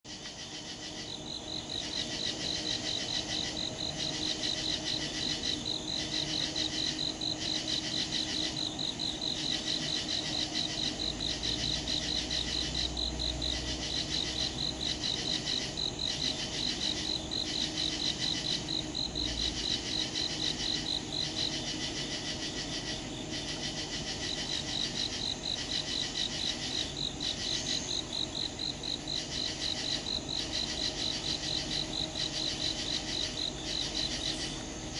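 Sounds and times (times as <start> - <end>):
crickets trilling: 0.1 - 34.9
pulsing insect call: 0.1 - 34.9.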